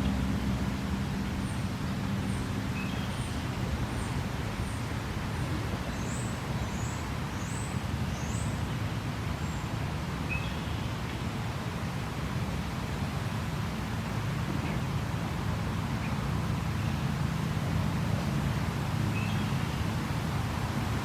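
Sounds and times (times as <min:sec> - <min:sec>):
creek water rushing: 0:00.0 - 0:21.0
distant road traffic hum: 0:00.0 - 0:21.0.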